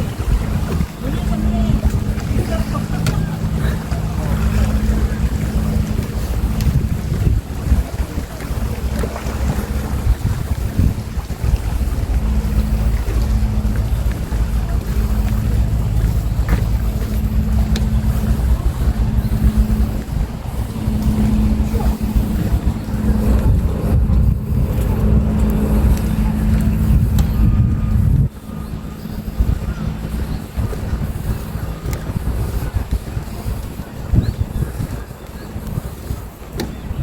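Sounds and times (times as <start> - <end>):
engine running steadily: 0.0 - 37.0
wind buffeting microphone: 0.0 - 37.0.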